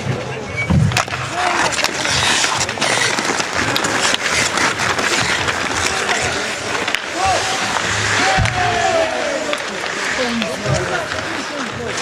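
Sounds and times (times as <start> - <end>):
sticks and puck clacking: 0.0 - 12.0
skates hissing on ice: 1.3 - 12.0.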